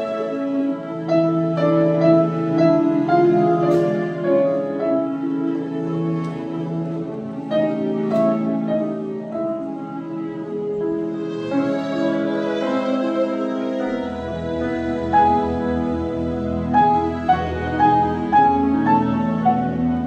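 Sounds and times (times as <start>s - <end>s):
piano notes: 0.0s - 20.0s
strings holding notes: 0.0s - 20.0s.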